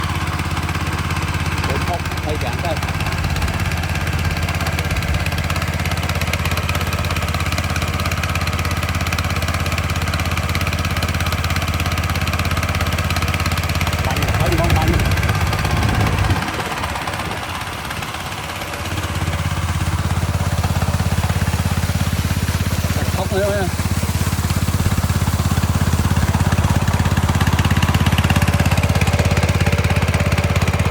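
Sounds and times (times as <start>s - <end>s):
engine idling: 0.0s - 30.9s.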